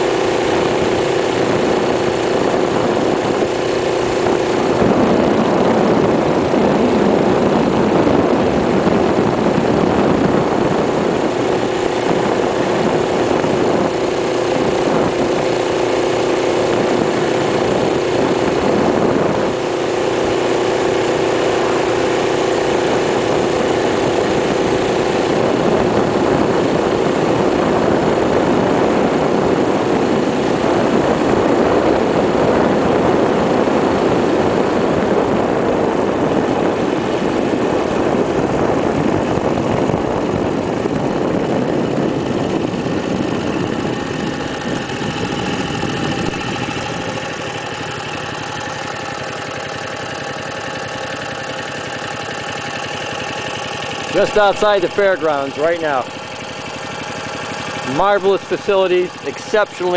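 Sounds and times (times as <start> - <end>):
minibike engine running: 0.0 - 59.9.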